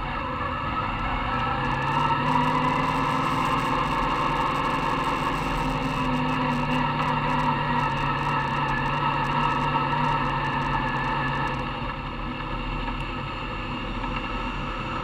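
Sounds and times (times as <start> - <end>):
race car engine at low revs: 0.0 - 15.0.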